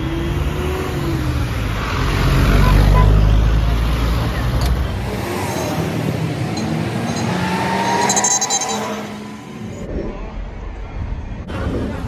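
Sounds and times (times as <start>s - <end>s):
cars and bus driving past: 0.0s - 12.0s.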